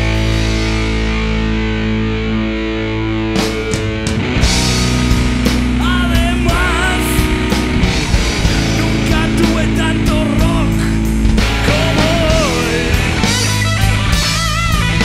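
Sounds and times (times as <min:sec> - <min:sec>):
distorted electric guitar chord: 0:00.0 - 0:15.0
guitar lead with bent notes: 0:00.0 - 0:15.0
rock band playing: 0:00.0 - 0:15.0.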